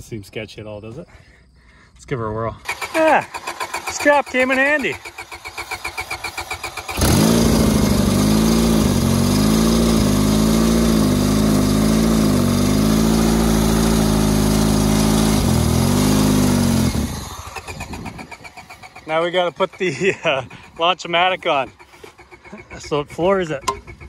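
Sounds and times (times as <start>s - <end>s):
starter motor cranking: 2.6s - 24.0s.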